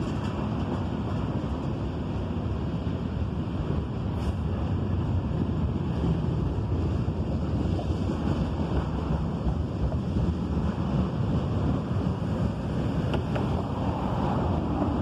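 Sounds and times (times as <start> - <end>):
freight train cars rolling: 0.0 - 15.0
wind noise on microphone: 0.0 - 15.0.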